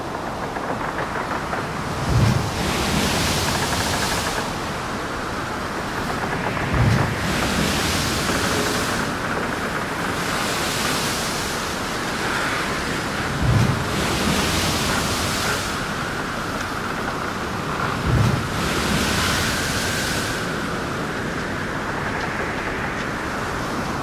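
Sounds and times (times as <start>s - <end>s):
rushing surf noise: 0.0s - 24.0s.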